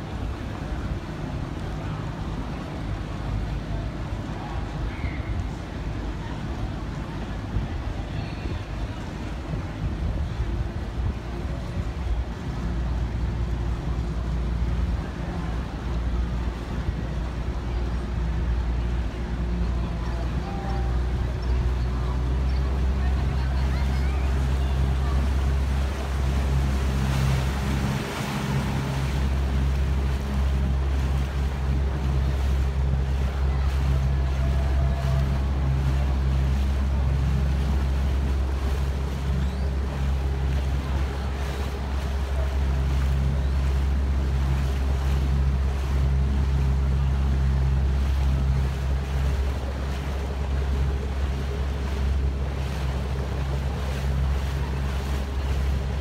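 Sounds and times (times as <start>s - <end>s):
motorboat engine droning: 0.0s - 56.0s
water washing along hull: 0.0s - 56.0s
wind on microphone: 0.0s - 56.0s.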